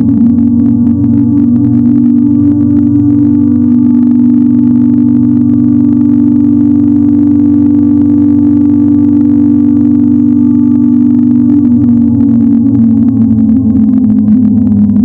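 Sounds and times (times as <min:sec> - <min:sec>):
steady low alarm tone: 0:00.0 - 0:15.0.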